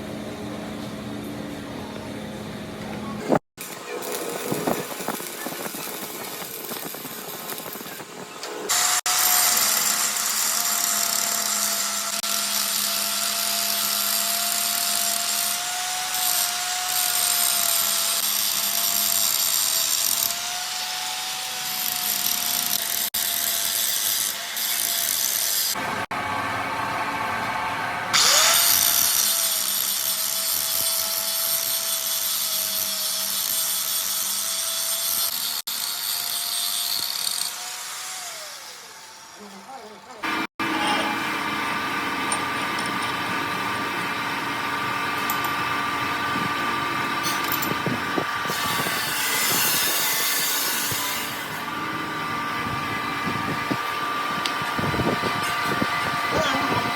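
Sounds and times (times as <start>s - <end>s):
power tool grinding metal: 3.6s - 26.1s, 28.1s - 56.9s.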